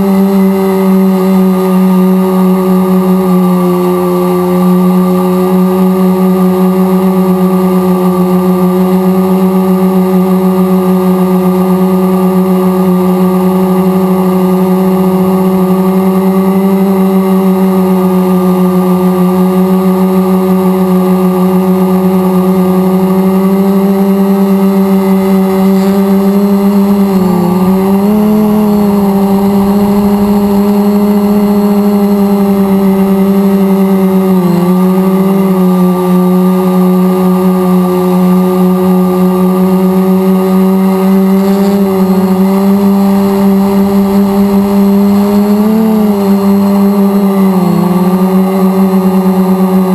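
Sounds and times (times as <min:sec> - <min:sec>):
drone propellers whining: 0:00.0 - 0:49.9.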